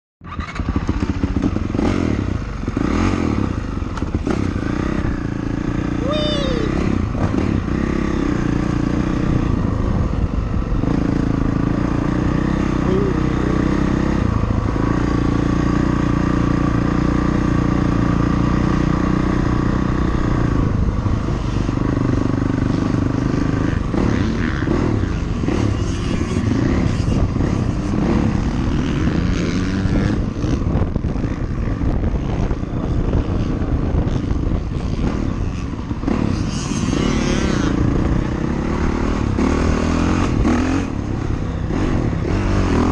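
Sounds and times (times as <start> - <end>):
wind rumbling on microphone: 0.2 - 16.8, 17.8 - 42.9
atv engine running: 0.2 - 42.9.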